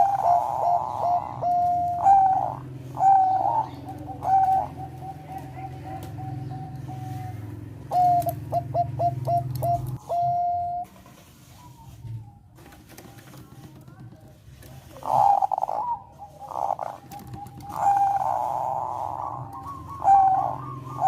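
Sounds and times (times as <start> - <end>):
dove cooing: 0.0 - 10.9, 14.6 - 21.0.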